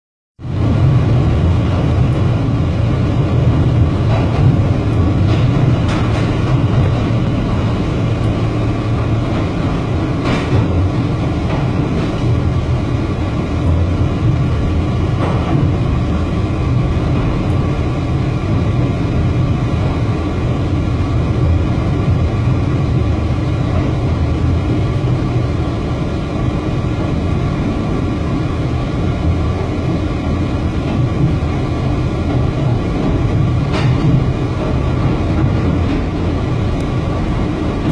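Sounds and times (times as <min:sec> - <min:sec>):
subway train rumbling in tunnel: 0:00.4 - 0:37.9.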